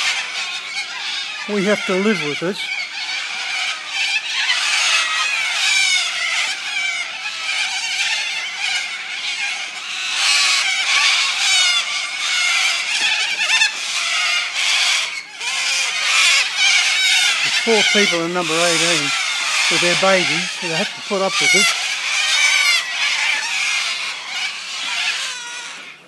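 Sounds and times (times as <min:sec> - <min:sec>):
flock of birds screeching: 0:00.0 - 0:26.0.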